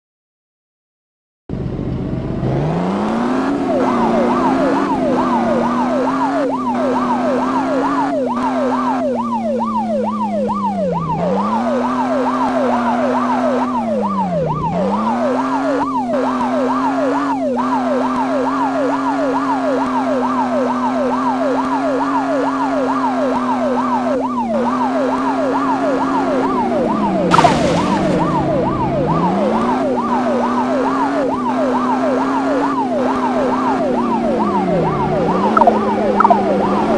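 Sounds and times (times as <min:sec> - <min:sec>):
police siren yelping: 0:03.0 - 0:36.9.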